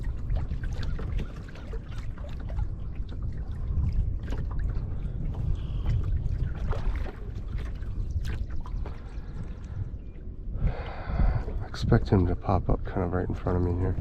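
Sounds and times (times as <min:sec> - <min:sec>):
paddle drips and splashes: 0:00.0 - 0:12.3
steady low rumble: 0:01.8 - 0:14.0.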